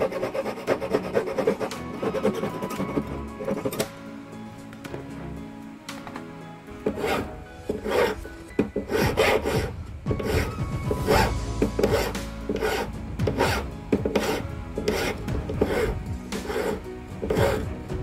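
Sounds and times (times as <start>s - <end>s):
hand file scraping metal ring: 0.0s - 3.9s, 6.8s - 17.7s.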